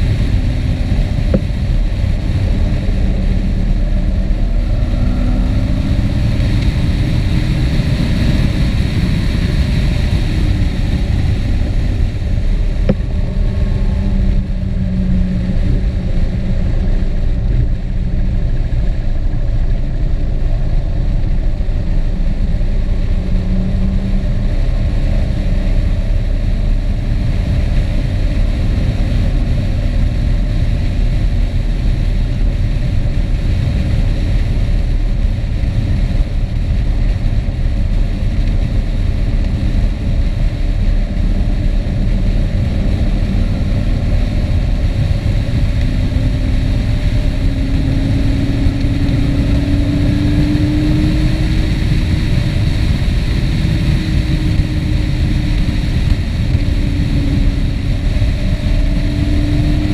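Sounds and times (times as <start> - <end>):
vehicle engine running: 0.0 - 59.9
wind rumble on microphone: 0.0 - 59.9.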